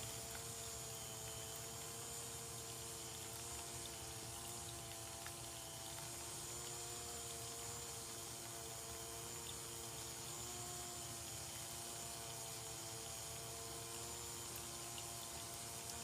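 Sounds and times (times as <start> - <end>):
small pump humming: 0.0 - 16.0
water trickling: 0.0 - 16.0.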